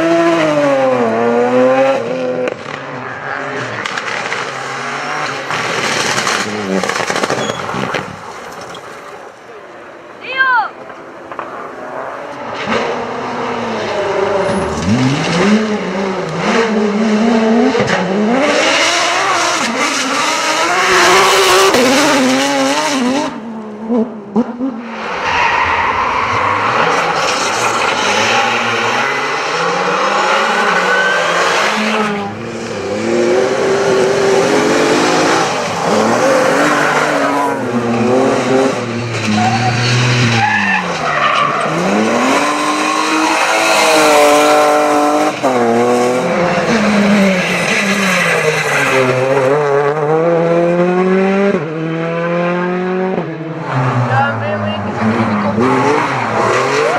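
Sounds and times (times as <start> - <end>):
rally car engines revving: 0.0 - 56.9
tyre and road noise: 0.0 - 56.9
tyres skidding: 0.1 - 50.6.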